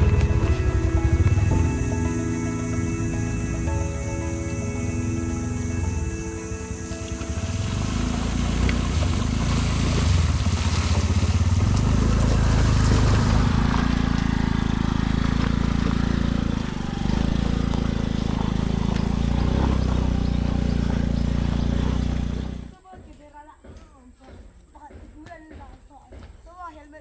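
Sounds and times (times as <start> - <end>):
scooter engine running: 0.0 - 22.8.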